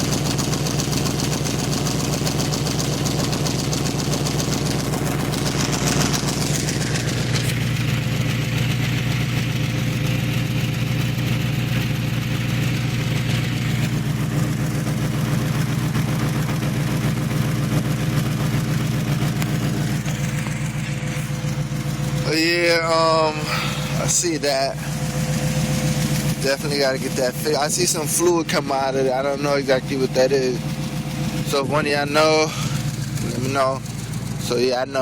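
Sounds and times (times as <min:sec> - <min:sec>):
exhaust leak hissing: 0:00.0 - 0:34.9
car engine idling: 0:00.0 - 0:35.0.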